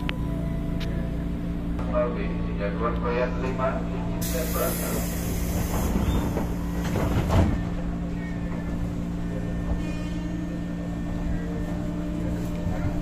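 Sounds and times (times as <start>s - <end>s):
train electrical hum: 0.0s - 13.0s.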